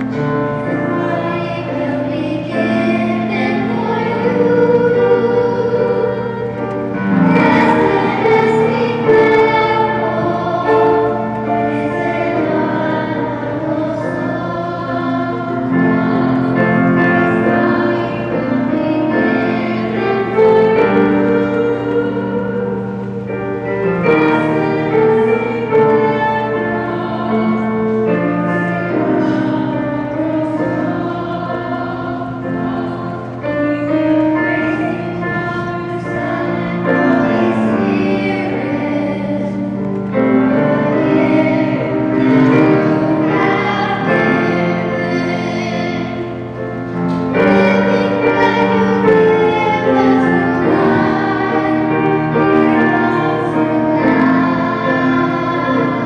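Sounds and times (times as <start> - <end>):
children's choir singing: 0.0 - 56.0.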